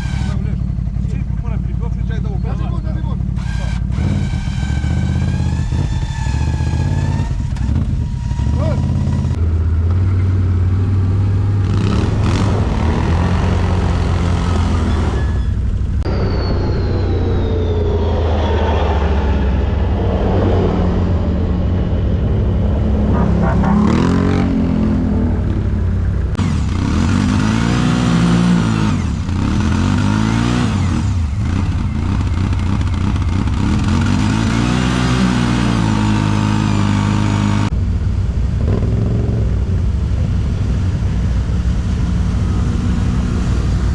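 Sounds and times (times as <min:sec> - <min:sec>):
atv engines revving: 0:00.0 - 0:43.9.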